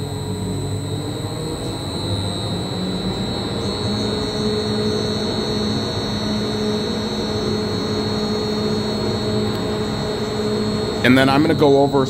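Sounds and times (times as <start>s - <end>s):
high whine: 0.0s - 12.0s
industrial blender humming: 0.0s - 12.0s.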